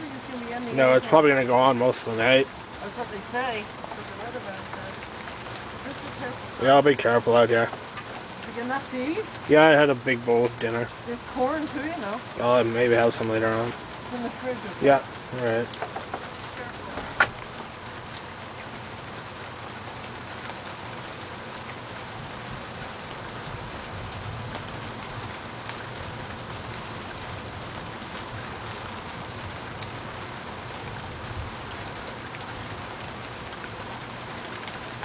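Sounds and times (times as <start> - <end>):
raindrop taps: 0.0 - 35.0
steady rain hiss: 0.0 - 35.0.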